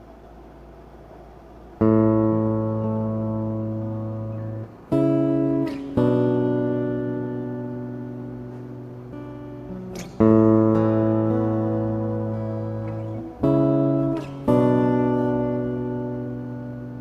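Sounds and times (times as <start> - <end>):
acoustic guitar strumming chords: 1.8 - 17.0.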